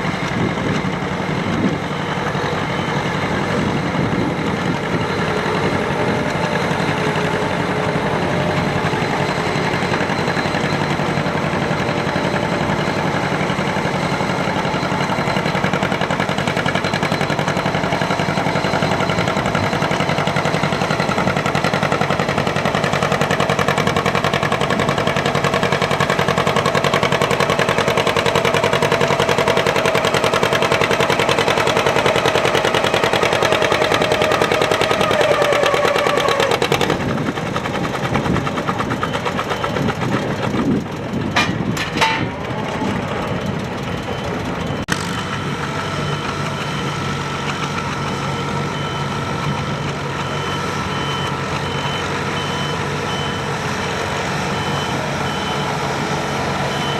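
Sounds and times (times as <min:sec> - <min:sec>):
reversing beeper: 0:00.0 - 0:56.9
tractor engine under load: 0:00.0 - 0:56.9.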